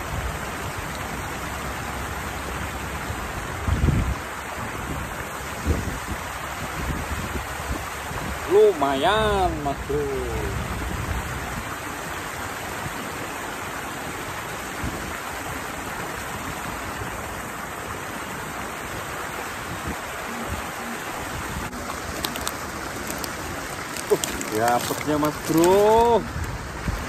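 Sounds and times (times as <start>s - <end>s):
water pouring down a cascade: 0.0s - 27.0s.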